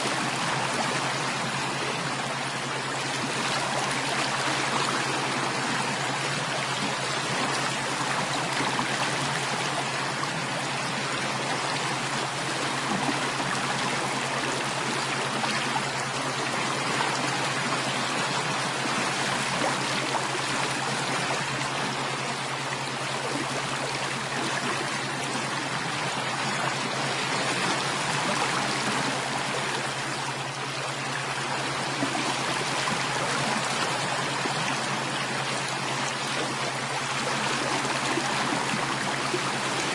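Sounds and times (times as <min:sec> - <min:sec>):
low steady hum: 0:00.0 - 0:39.9
stream water rushing: 0:00.0 - 0:39.9.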